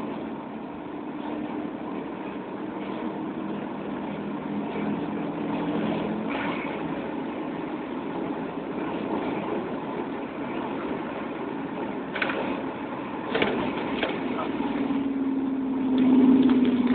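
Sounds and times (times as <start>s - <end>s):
car engine running from inside: 0.0s - 16.9s.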